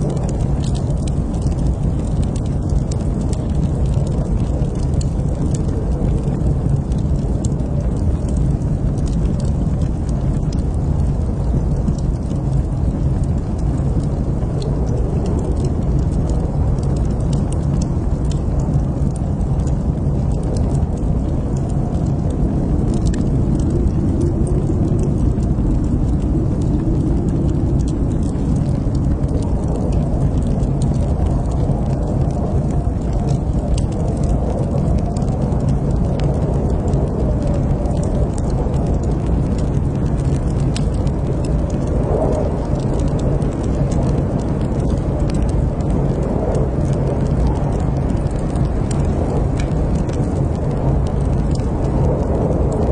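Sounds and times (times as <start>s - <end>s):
fire crackles: 0.0s - 52.9s
wood fire flames: 0.0s - 52.9s.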